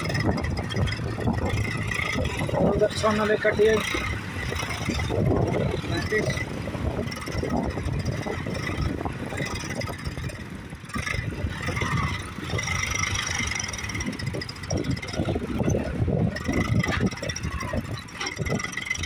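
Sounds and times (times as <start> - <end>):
tractor engine working hard: 0.0 - 19.0.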